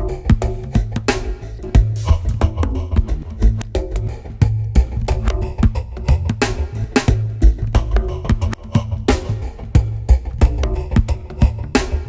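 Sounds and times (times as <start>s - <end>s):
bass line: 0.0s - 12.0s
drum beat: 0.0s - 12.0s.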